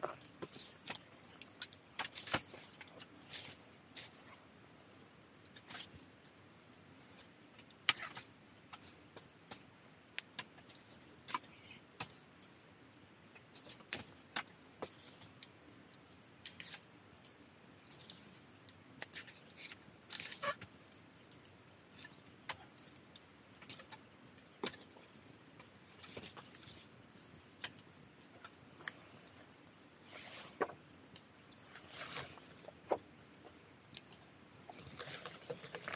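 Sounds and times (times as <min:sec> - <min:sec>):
fire crackling and popping: 0:00.0 - 0:35.9.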